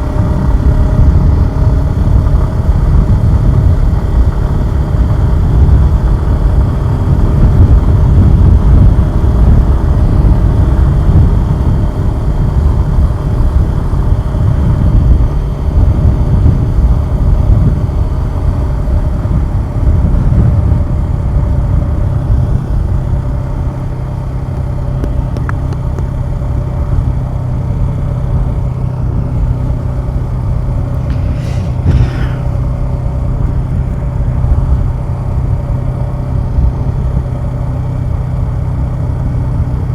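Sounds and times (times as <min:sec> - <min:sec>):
motorcycle engine running: 0:00.0 - 0:39.9
wind rumble: 0:00.0 - 0:39.9.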